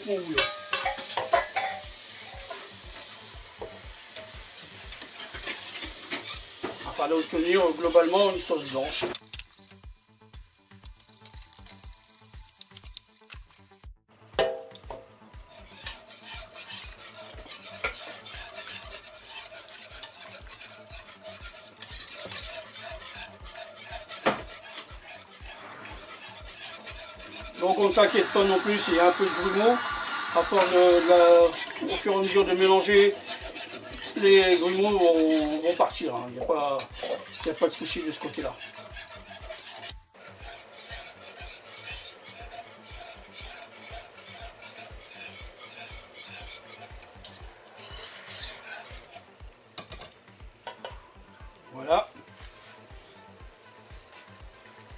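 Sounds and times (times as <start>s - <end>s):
whisk stirring sauce in a pan: 0.0s - 13.7s, 14.8s - 54.9s
sauce sizzling: 0.0s - 54.9s
whisk clinking against pan: 0.3s - 9.7s, 14.4s - 49.2s, 49.8s - 51.1s.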